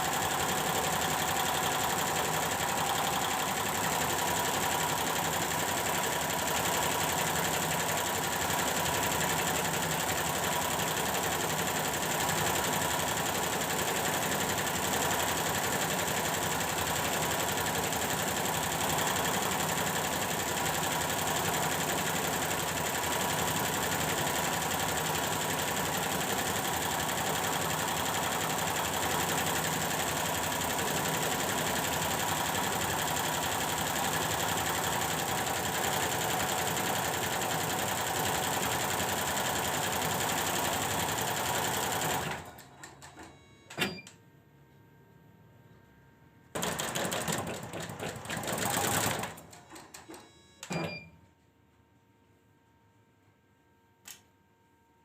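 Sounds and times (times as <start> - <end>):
embroidery machine stitching: 0.0 - 42.5, 46.6 - 49.5.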